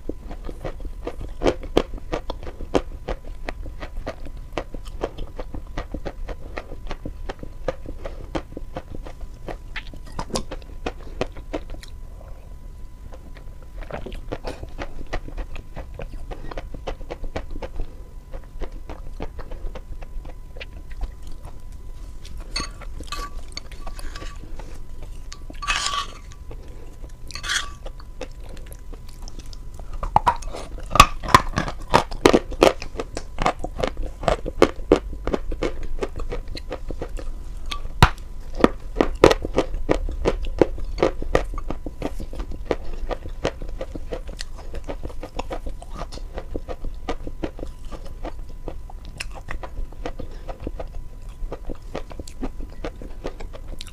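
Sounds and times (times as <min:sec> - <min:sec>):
chewing and crunching chalk: 0:00.0 - 0:12.5, 0:13.1 - 0:53.9.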